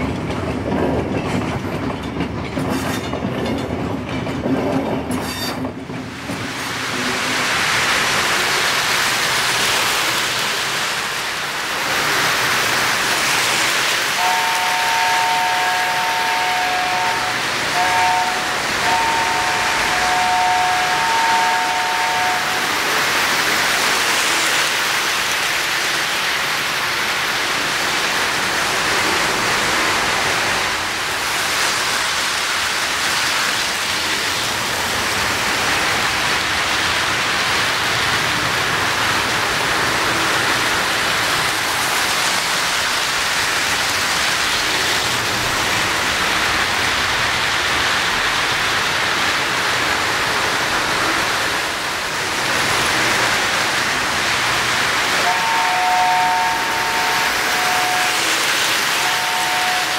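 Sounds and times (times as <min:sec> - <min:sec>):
model train wheels rushing on rail: 0:00.0 - 0:59.9.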